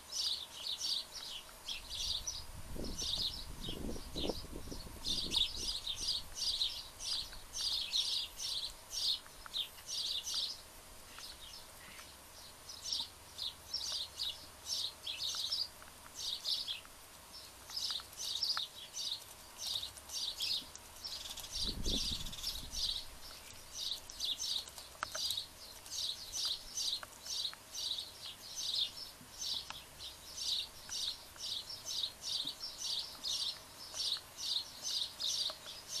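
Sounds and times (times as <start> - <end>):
small bird chirping: 0.0 - 36.0.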